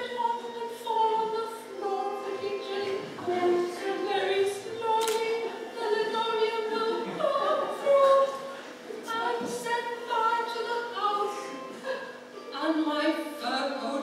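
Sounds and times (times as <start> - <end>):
woman singing a hymn: 0.0 - 14.0.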